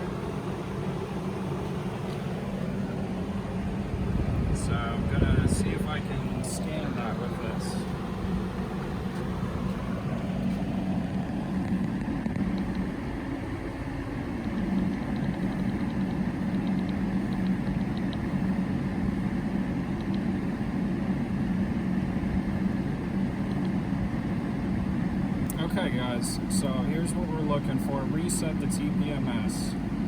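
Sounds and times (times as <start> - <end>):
car cabin running hum: 0.0 - 30.0.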